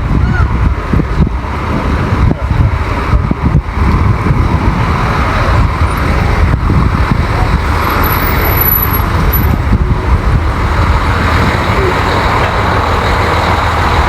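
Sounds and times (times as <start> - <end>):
road traffic rumble: 0.0 - 14.0
wind on microphone: 0.0 - 14.0.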